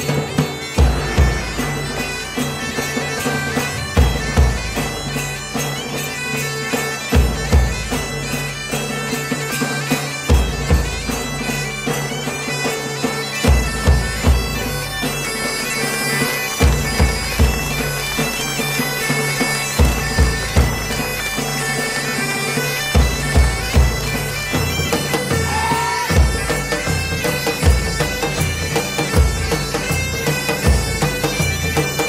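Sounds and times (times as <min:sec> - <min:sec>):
bagpipes playing a tune: 0:00.0 - 0:32.0
drum beats: 0:00.0 - 0:32.0.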